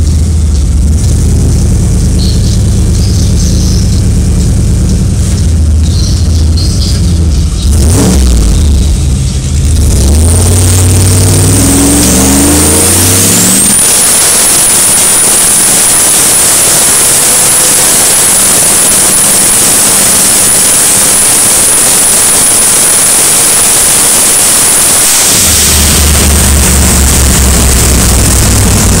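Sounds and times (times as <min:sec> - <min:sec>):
drag car engine rumble and revving: 0:00.0 - 0:29.0
turbo whine: 0:00.0 - 0:29.0.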